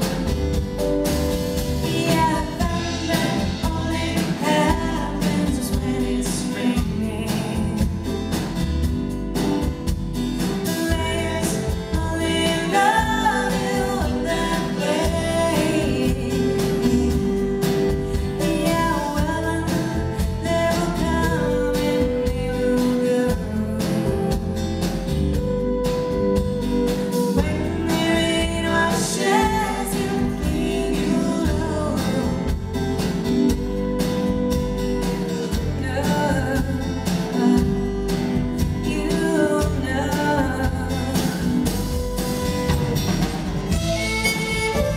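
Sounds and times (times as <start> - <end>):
live rock band: 0.0 - 44.9
woman singing: 1.8 - 8.6, 10.6 - 42.6.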